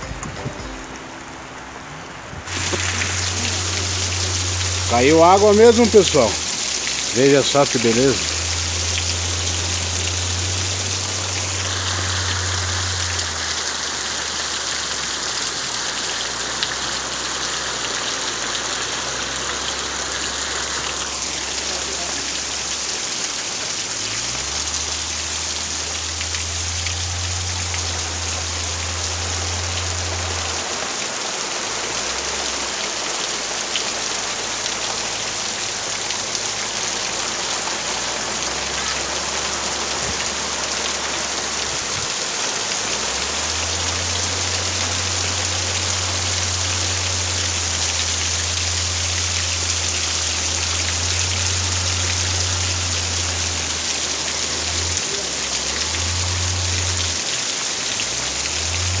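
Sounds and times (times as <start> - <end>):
heavy rain splashing on ground: 0.0 - 59.0.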